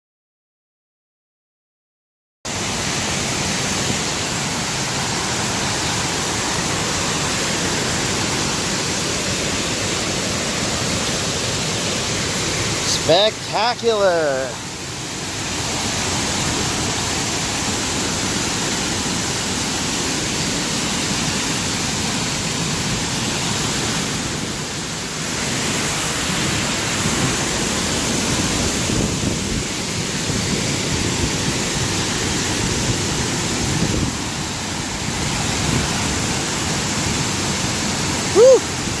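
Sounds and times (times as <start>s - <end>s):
waterfall rushing: 2.5s - 39.0s.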